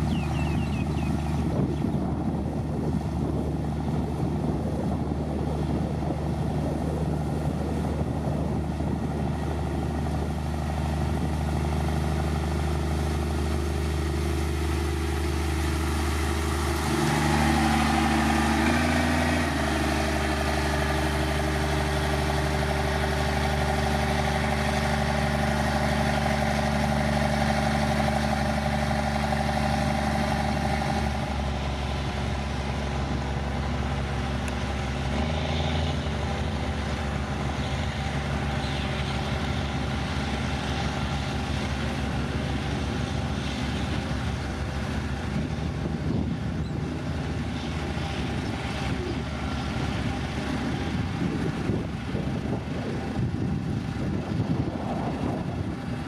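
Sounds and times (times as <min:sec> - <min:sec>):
heavy machinery diesel engine: 0:00.0 - 0:56.0.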